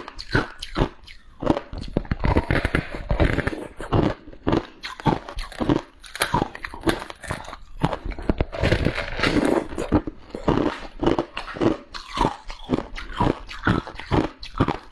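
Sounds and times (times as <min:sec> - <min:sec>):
chewing frost crunches: 0:00.0 - 0:14.9.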